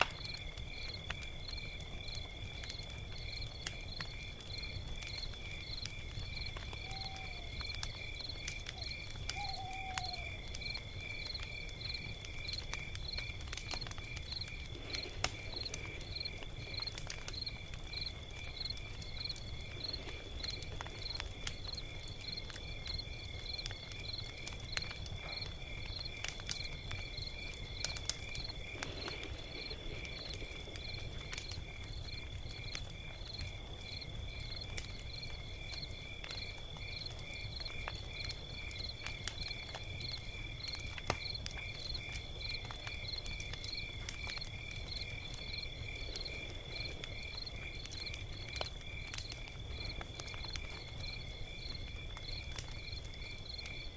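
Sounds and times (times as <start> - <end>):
log fire crackling: 0.0 - 53.9.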